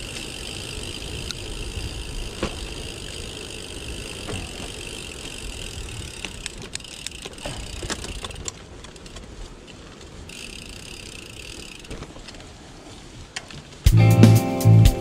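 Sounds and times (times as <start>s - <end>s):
bike tyres rumbling on gravel: 0.0s - 13.9s
stones and bike clicking: 0.0s - 13.9s.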